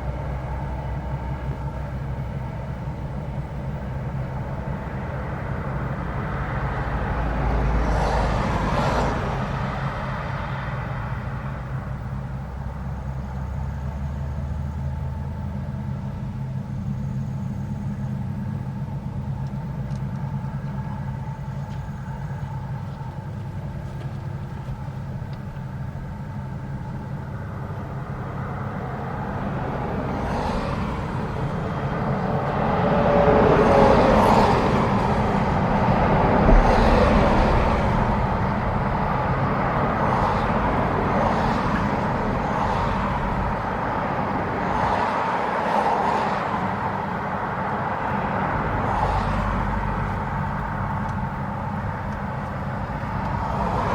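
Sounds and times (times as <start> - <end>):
combine harvester engine hum: 0.0 - 53.9.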